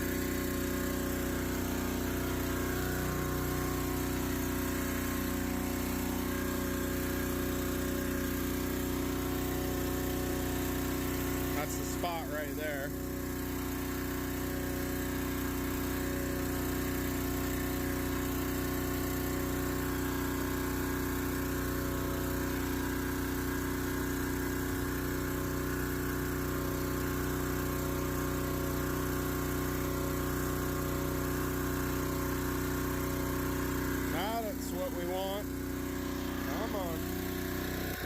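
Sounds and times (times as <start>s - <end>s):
hose jetting water: 0.0s - 38.0s
small engine running: 0.0s - 38.0s.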